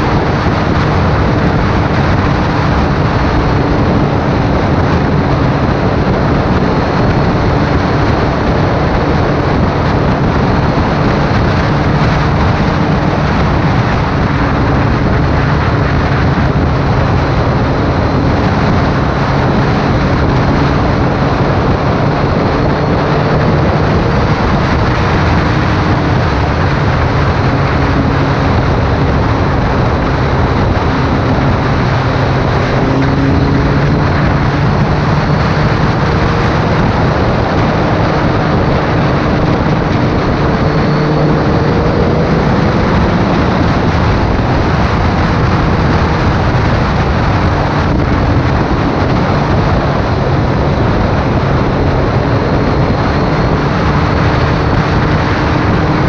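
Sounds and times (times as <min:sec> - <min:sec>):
motorcycle engine droning: 0:00.0 - 0:56.0
wind rushing over microphone: 0:00.0 - 0:56.0.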